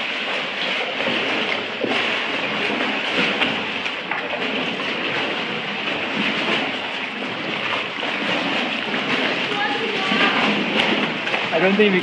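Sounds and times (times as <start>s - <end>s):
kayak paddle strokes: 0.0s - 12.0s
water lapping against rock walls: 0.0s - 12.0s.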